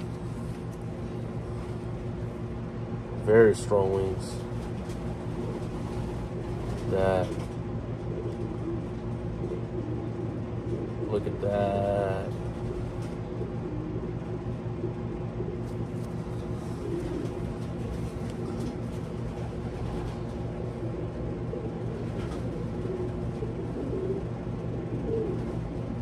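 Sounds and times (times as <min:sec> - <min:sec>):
faint pigeon coos: 0:00.0 - 0:26.0
low mechanical hum: 0:00.0 - 0:26.0.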